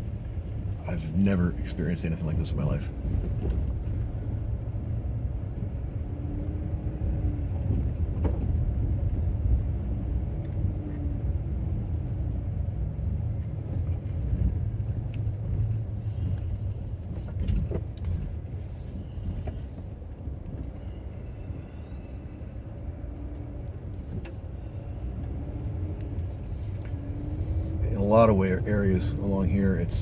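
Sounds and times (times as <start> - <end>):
van engine and tyre rumble: 0.0 - 30.0.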